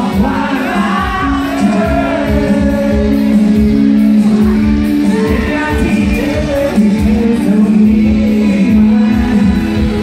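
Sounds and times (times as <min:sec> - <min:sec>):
steady drum beat: 0:00.0 - 0:10.0.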